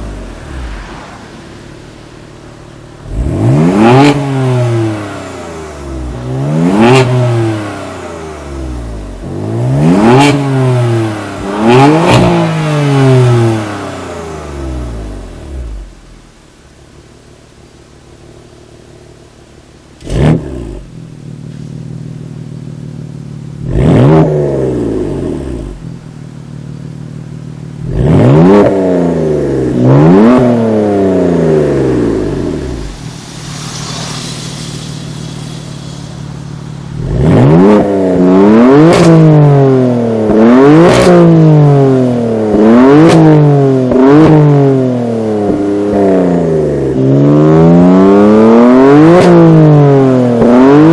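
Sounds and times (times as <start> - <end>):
car engine revving and idling: 0.0 - 50.9.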